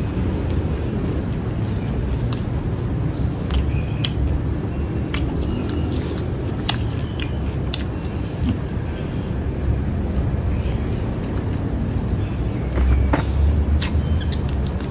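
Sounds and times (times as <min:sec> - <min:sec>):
crunchy chewing of stems: 0:00.0 - 0:14.9.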